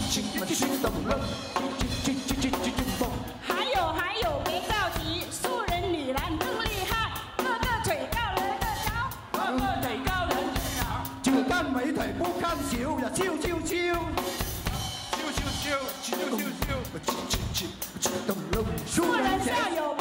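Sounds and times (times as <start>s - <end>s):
voices singing: 0.0s - 14.0s, 14.7s - 20.0s
drum kit beat: 0.0s - 20.0s
live band playing pop: 0.0s - 20.0s.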